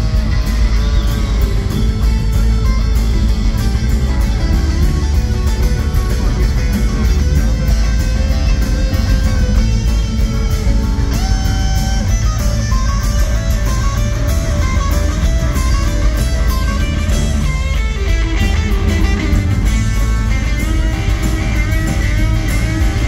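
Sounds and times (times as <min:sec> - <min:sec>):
lead electric guitar runs: 0:00.0 - 0:23.0
rock band playing: 0:00.0 - 0:23.0.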